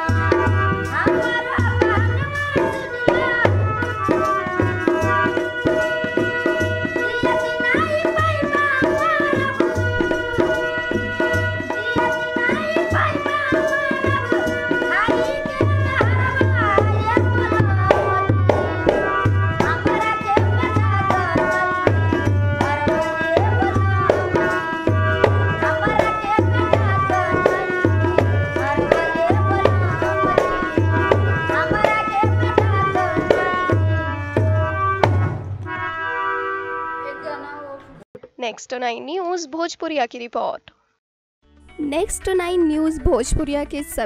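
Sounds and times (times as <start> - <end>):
harmonium: 0.0 - 37.9.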